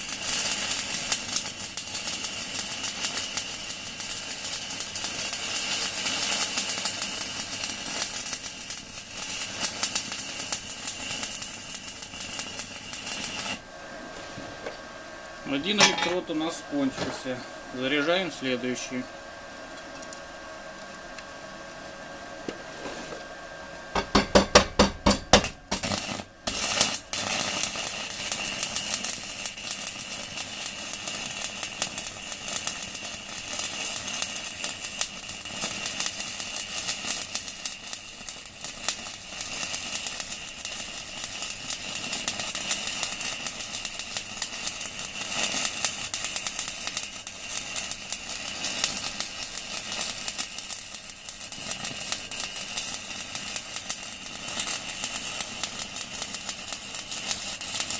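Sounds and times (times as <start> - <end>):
welding arc crackling: 0.0 - 14.0, 14.8 - 21.9, 23.9 - 57.9.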